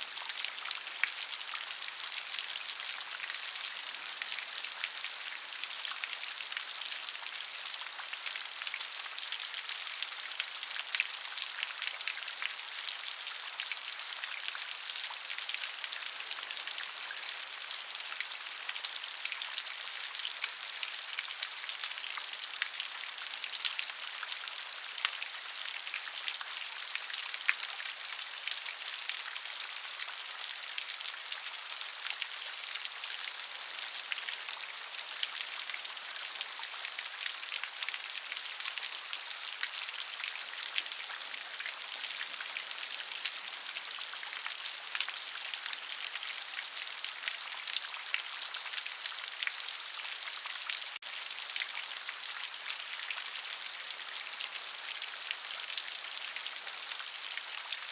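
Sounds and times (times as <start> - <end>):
steady rain patter: 0.0 - 57.9.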